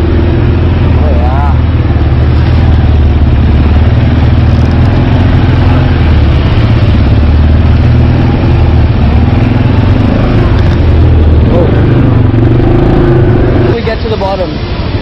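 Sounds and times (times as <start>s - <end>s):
atv engine running: 0.0s - 15.0s
rushing noise: 0.0s - 15.0s.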